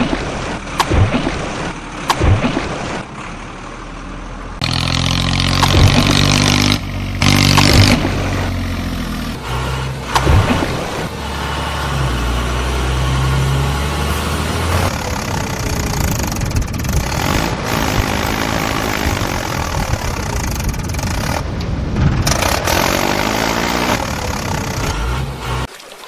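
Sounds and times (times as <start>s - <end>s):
tractor engine running: 0.0s - 25.7s.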